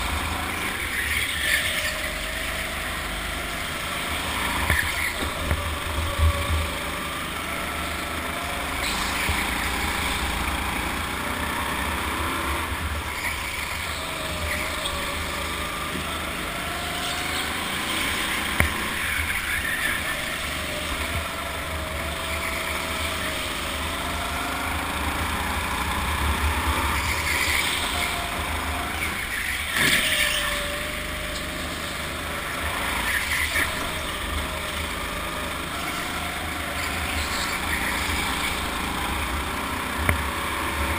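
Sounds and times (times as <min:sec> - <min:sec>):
go-kart motor: 0:00.0 - 0:40.9.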